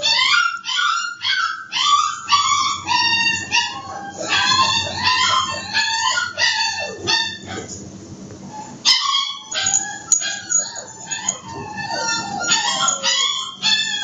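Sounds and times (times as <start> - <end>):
dogs whining and yelping: 0.0 - 7.8, 8.4 - 14.0.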